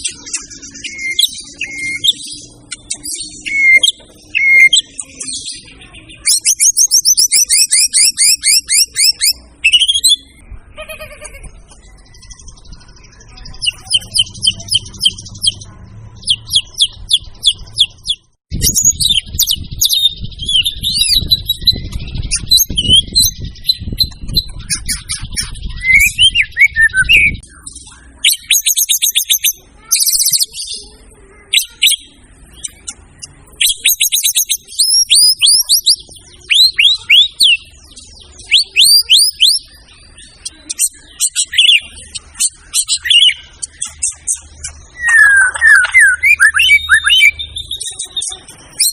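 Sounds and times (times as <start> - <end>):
songbird whistling and trilling: 0.0 - 10.4, 12.1 - 15.6, 16.2 - 30.8, 31.6 - 48.9.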